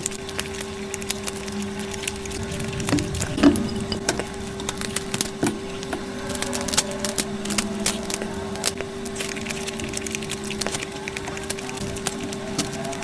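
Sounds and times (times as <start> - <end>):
crunching food being chewed: 0.0 - 4.0, 4.6 - 13.0
steady low hum: 0.0 - 13.0.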